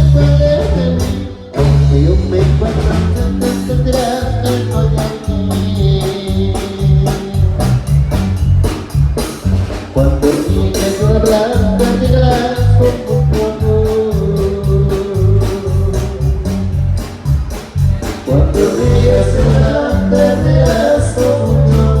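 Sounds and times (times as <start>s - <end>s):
person singing: 0.0s - 8.3s, 9.9s - 17.0s, 17.8s - 22.0s
music with heavy bass beat: 0.0s - 22.0s.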